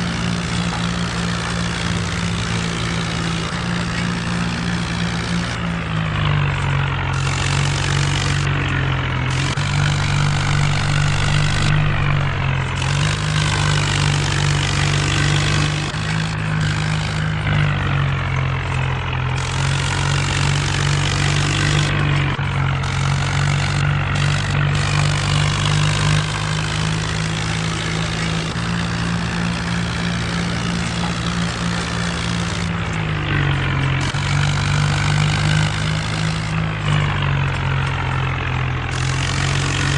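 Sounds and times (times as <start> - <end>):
rotavator rattling and churning: 0.0 - 39.9
tractor diesel engine running: 0.0 - 39.9.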